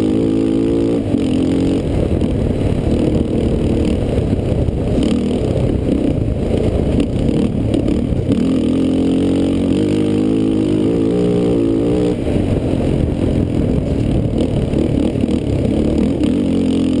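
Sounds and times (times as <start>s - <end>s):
quad engine running hard: 0.0s - 17.0s
rumbling wind and trail noise: 0.0s - 17.0s.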